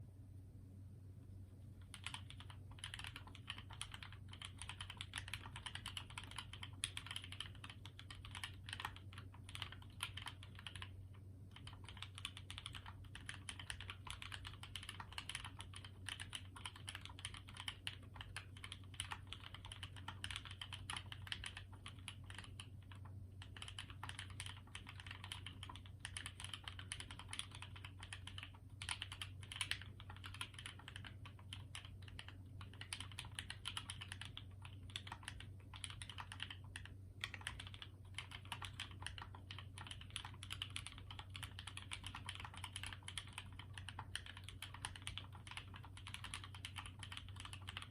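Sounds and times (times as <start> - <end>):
mechanical keyboard typing: 1.8 - 47.9.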